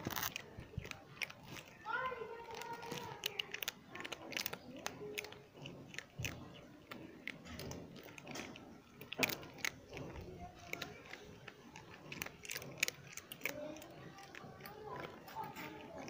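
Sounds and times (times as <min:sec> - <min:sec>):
kittens crunching food: 0:00.0 - 0:16.0.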